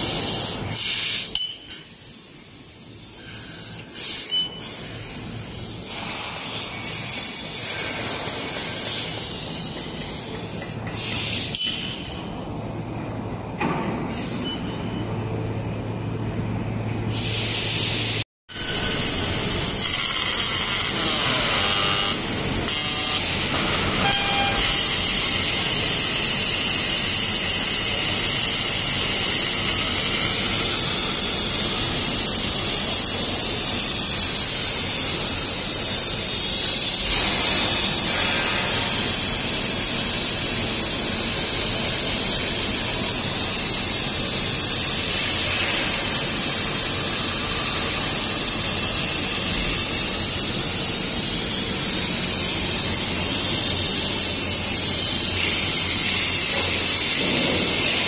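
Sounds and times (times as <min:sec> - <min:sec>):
laser cutter gas jet hissing: 0:00.0 - 0:11.8, 0:17.1 - 0:58.0.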